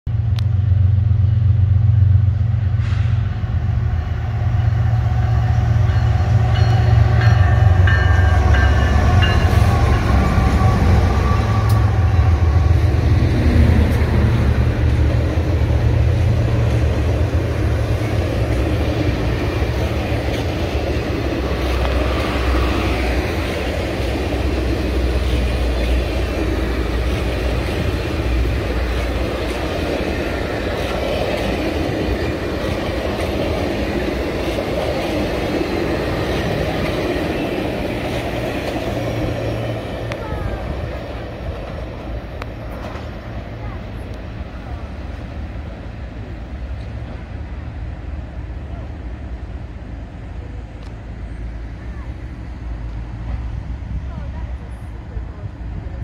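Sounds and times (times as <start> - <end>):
diesel locomotives rumbling: 0.1 - 56.0
train wheels rolling past: 0.2 - 56.0.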